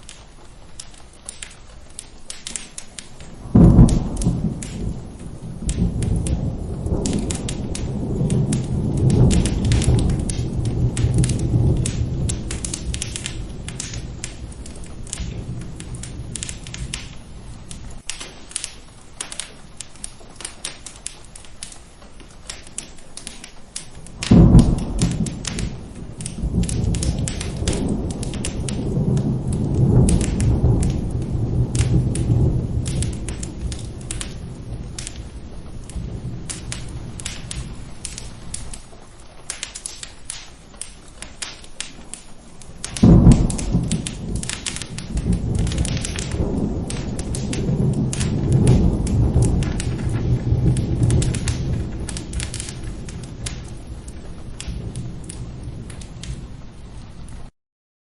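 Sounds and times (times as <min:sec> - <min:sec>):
fireplace crackling: 0:00.0 - 0:57.5
steady rain: 0:00.0 - 0:57.5
thunderclap rumbling: 0:00.0 - 0:57.5.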